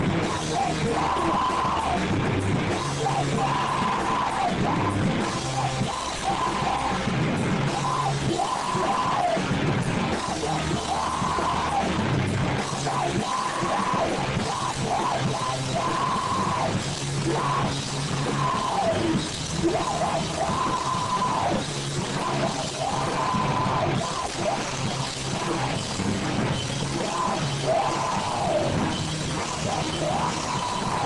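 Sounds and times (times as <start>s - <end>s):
distorted electric guitar: 0.0s - 31.0s
drum kit: 0.0s - 31.0s
heavy rock band playing: 0.0s - 31.0s.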